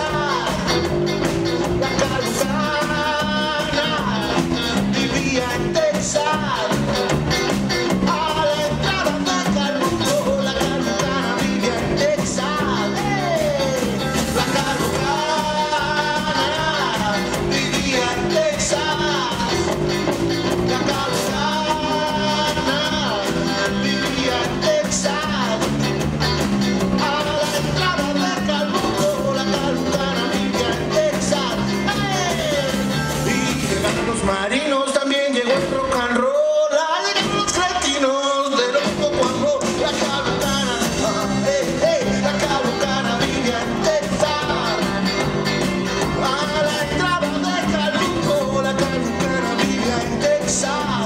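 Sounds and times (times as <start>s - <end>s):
steady drum beat: 0.0s - 34.4s, 38.7s - 51.0s
electric guitar: 0.0s - 51.0s
live rock band playing: 0.0s - 51.0s.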